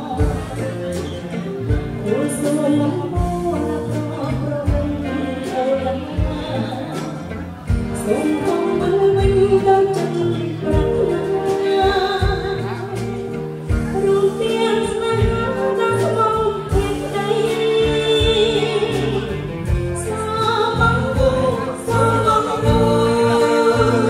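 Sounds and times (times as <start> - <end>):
musical accompaniment with steady beat: 0.0 - 24.0
woman singing into microphone: 0.0 - 24.0.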